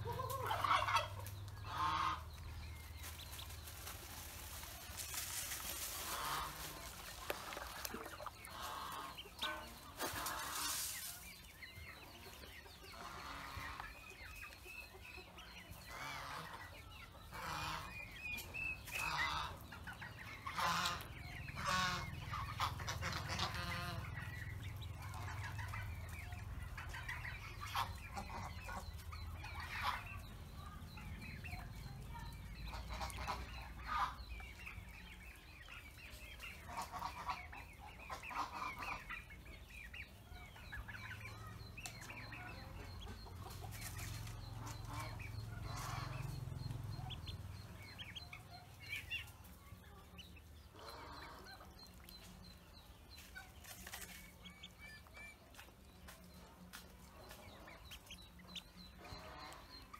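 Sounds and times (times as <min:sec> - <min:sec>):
chickens clucking: 0:00.0 - 0:59.9
ducklings peeping: 0:00.0 - 0:59.9.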